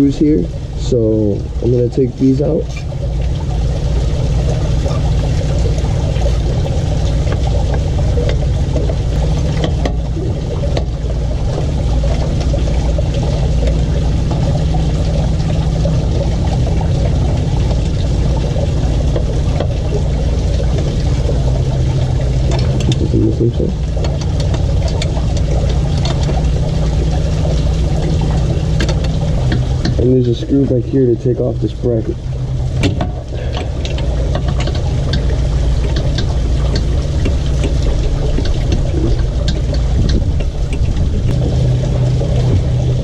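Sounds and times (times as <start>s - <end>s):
motor humming: 0.0s - 43.0s.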